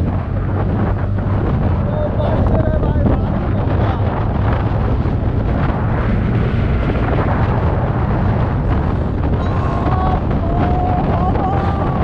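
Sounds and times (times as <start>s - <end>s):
deep rumble: 0.0s - 12.0s
wind buffeting microphone: 0.0s - 12.0s.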